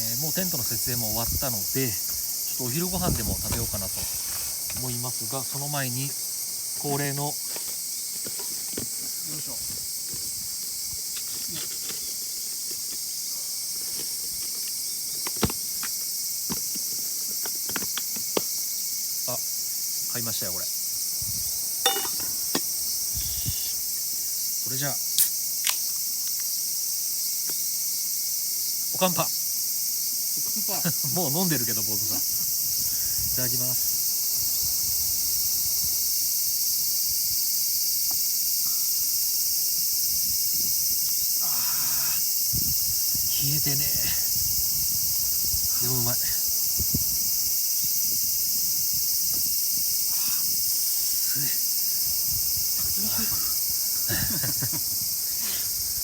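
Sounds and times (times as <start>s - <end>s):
high insect chorus: 0.0s - 56.0s.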